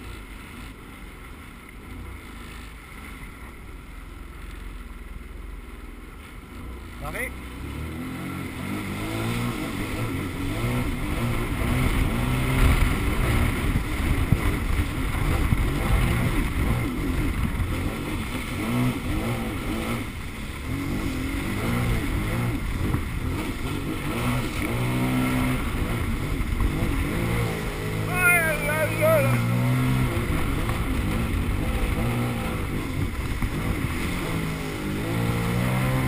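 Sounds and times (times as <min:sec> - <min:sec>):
water rushing: 0:00.0 - 0:36.0
watercraft engine running: 0:00.0 - 0:36.0.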